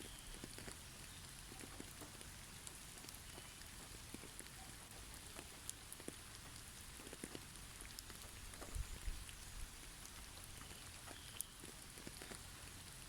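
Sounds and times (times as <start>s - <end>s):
snow pattering on trees: 0.0s - 13.0s.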